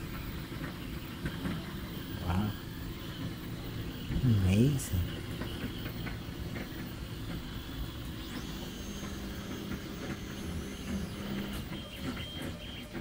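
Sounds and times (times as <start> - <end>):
fan hum: 0.0 - 13.0
printer motor whines: 0.0 - 13.0.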